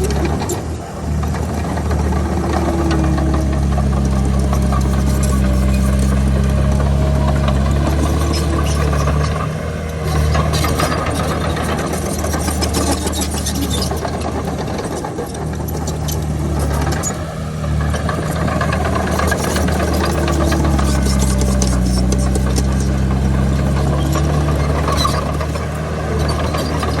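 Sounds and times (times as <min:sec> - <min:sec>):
bulldozer diesel engine: 0:00.0 - 0:27.0
machine clatter: 0:00.0 - 0:27.0.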